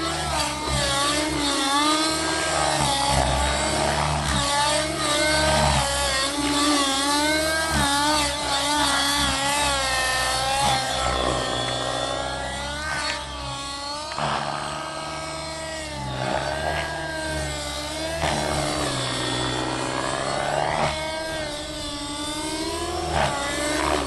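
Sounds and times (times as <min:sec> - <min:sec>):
model helicopter engine running hard: 0:00.0 - 0:24.0.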